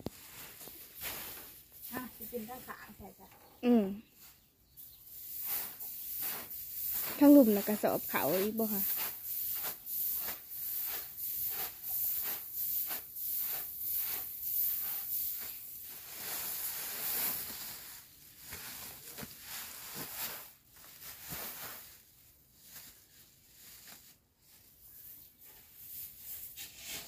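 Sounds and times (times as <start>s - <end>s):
rice grain pouring into sacks: 5.0s - 27.0s.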